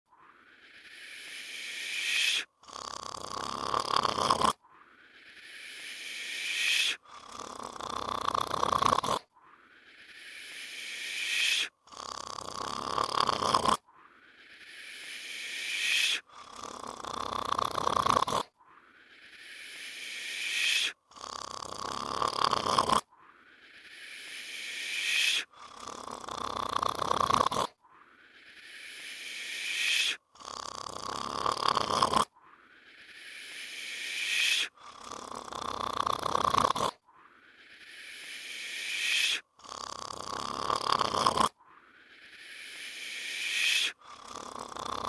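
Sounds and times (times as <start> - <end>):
breathy hiss: 0.1 - 45.0
reversed snoring: 0.1 - 45.0.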